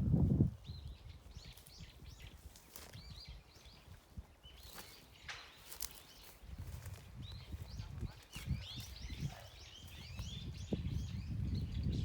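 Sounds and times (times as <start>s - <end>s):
small birds chirping: 0.5s - 12.0s.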